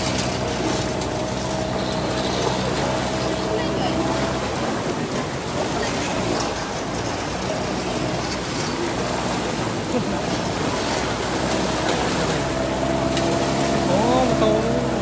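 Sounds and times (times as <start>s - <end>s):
rushing splashing water: 0.0s - 15.0s
small boat engine hum: 0.0s - 15.0s.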